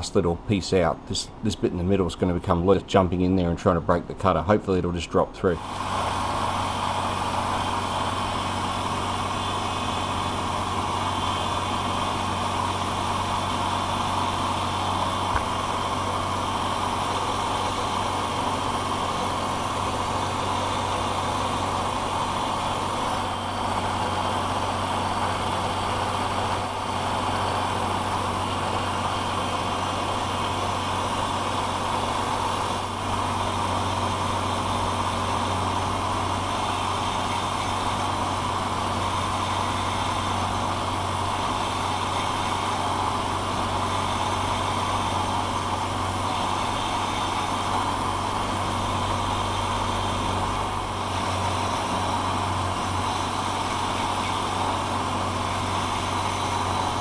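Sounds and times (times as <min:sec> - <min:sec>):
end mill cutting brass: 0:05.4 - 0:57.0
milling machine motor hum: 0:05.6 - 0:57.0.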